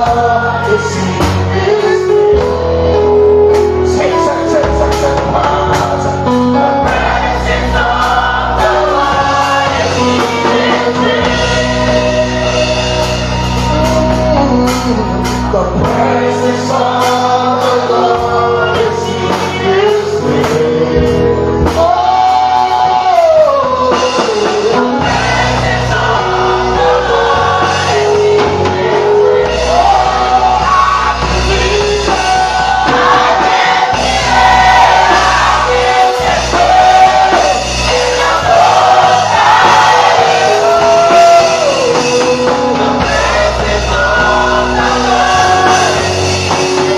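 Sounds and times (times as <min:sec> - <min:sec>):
choir singing: 0:00.0 - 0:02.5, 0:03.9 - 0:14.3, 0:15.5 - 0:46.9
band with bass and drums: 0:00.0 - 0:46.9
lead singer singing: 0:00.0 - 0:46.9.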